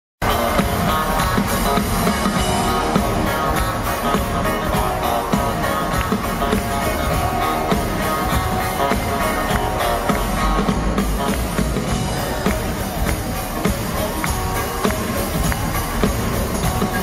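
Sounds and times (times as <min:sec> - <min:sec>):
live rock band playing: 0:00.2 - 0:17.0.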